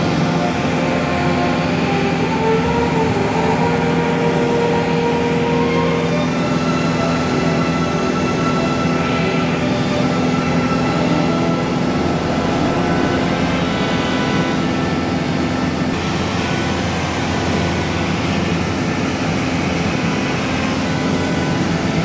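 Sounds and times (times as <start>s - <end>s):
propeller aircraft engine droning: 0.0s - 22.0s.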